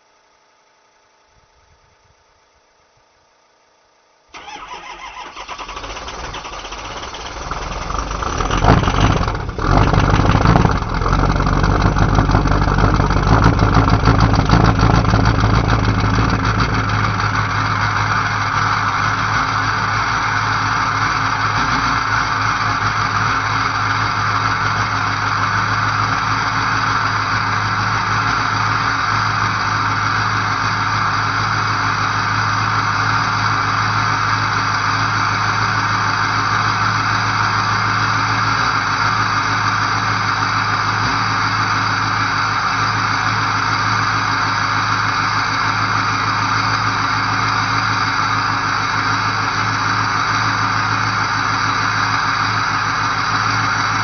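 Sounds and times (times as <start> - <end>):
diesel engine idling: 4.4 - 54.0.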